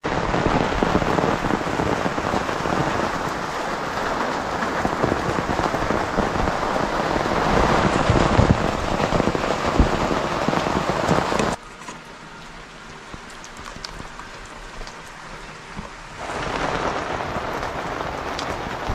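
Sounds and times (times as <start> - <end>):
heavy rain falling: 0.0 - 18.9
quiet rain patter: 0.0 - 18.9.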